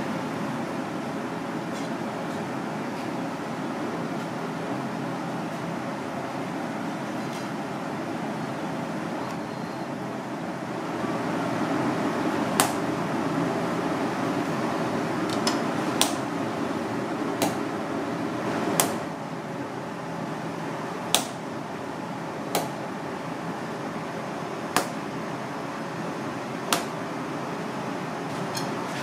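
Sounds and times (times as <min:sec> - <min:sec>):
faint hum: 0:00.0 - 0:29.0.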